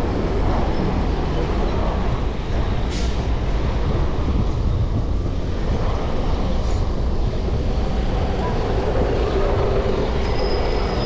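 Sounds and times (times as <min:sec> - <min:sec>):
road noise: 0:00.0 - 0:11.0
wind rumble: 0:00.0 - 0:11.0.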